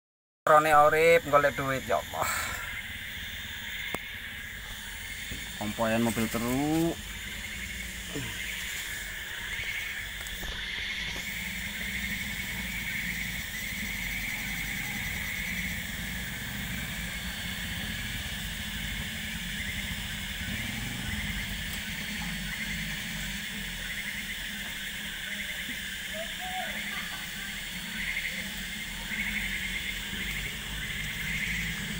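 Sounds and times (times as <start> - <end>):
high-pitched whine: 0.5 - 31.9
car engine running under load: 1.3 - 26.0, 27.1 - 31.9.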